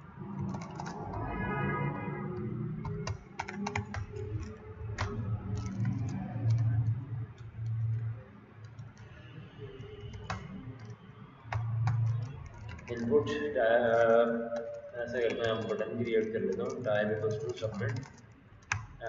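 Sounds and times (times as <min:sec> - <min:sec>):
keyboard typing: 0:00.0 - 0:19.0.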